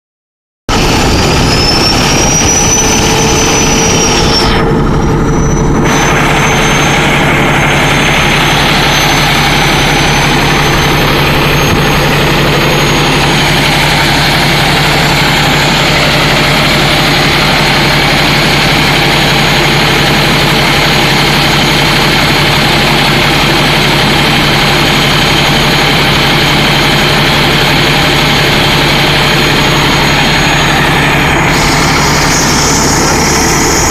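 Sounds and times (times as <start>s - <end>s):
diesel engine running: 0.7s - 33.9s
turbocharger whistle: 0.7s - 33.9s.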